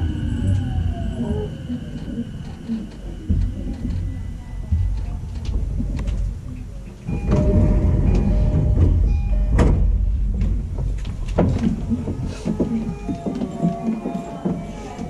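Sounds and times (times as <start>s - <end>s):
sliding train doors: 0.0s - 15.0s
steady tones: 0.0s - 15.0s
train car low rumble: 0.0s - 15.0s.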